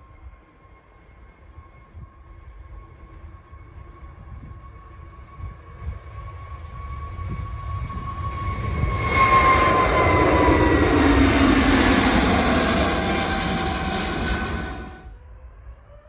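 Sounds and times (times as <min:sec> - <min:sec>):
jet engines at takeoff: 0:00.0 - 0:16.0.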